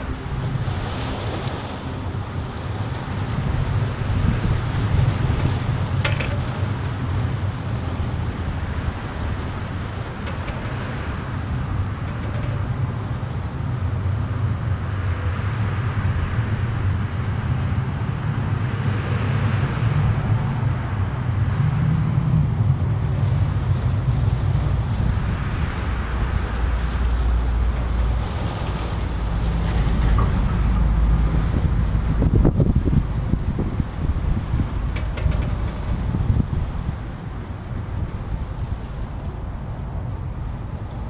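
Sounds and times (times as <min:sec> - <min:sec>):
wind buffeting the microphone: 0:00.0 - 0:41.0.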